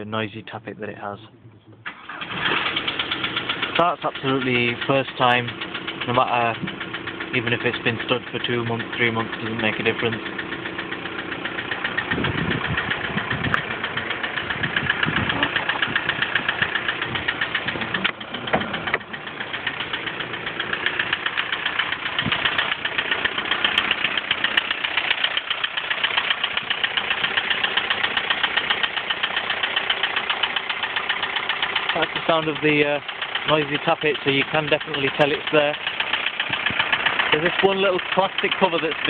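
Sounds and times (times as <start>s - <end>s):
diesel engine idling: 0.0s - 39.0s
tappet ticking clatter: 2.7s - 39.0s.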